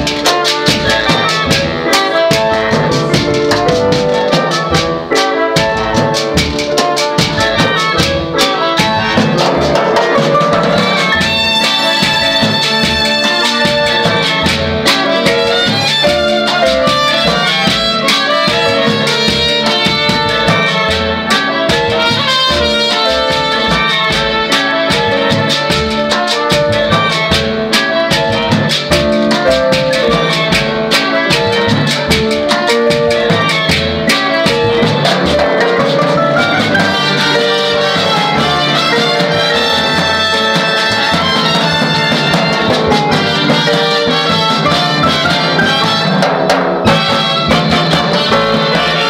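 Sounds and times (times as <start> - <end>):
brass section: 0.0 - 49.0
electric piano: 0.0 - 49.0
percussion pulse: 0.0 - 49.0
upright bass: 0.0 - 49.0.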